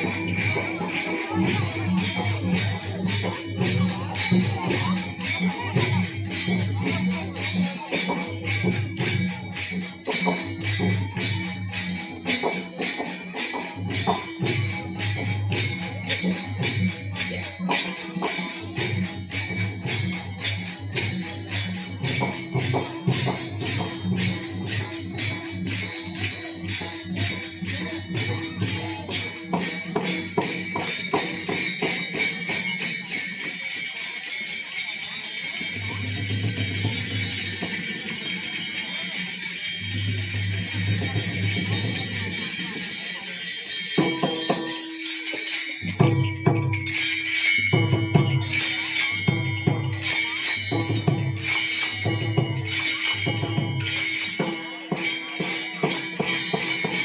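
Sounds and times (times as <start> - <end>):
hand cymbals jingling: 0.0 - 57.0.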